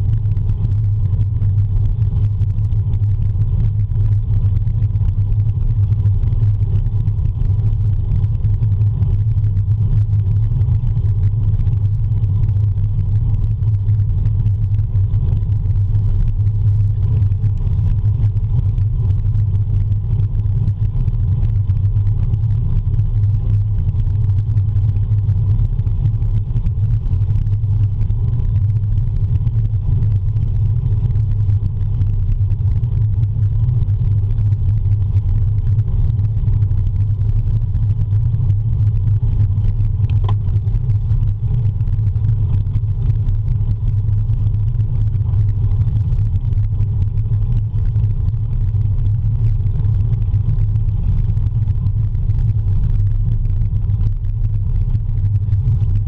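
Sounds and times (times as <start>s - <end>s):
wind rumble: 0.0s - 56.0s.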